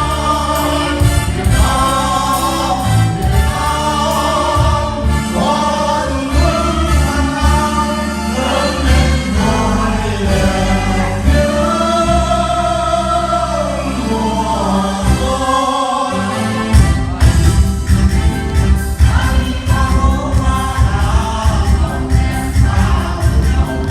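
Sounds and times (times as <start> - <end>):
amplified backing music: 0.0 - 23.9
group of people singing: 0.0 - 23.9.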